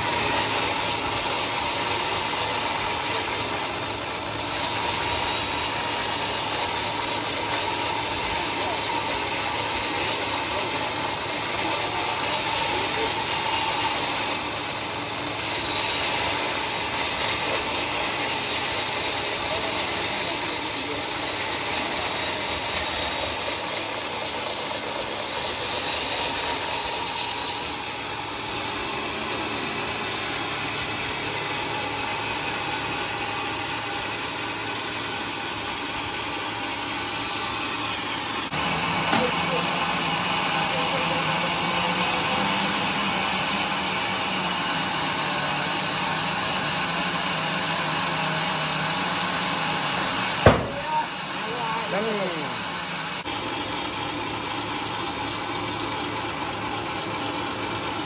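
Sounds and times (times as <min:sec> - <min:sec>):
saw blade hiss: 0:00.0 - 0:58.0
sawmill motor noise: 0:00.0 - 0:58.0.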